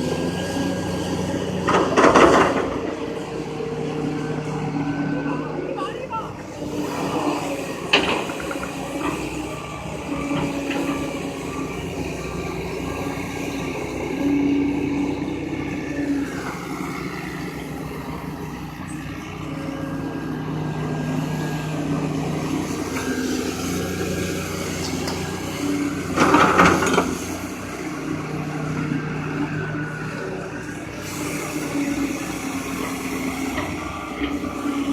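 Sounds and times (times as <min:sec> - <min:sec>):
backhoe diesel engine working: 0:00.0 - 0:34.9.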